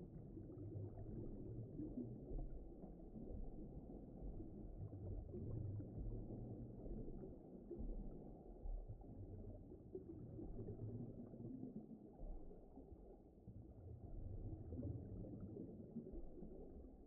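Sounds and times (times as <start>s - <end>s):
muffled underwater rumbling: 0.0s - 17.0s.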